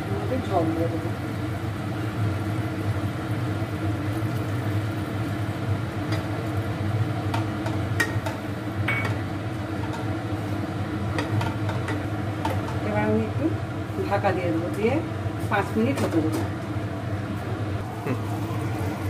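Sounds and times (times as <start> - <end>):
food cooking in a frying pan: 0.0 - 19.0
low kitchen hum: 0.0 - 19.0.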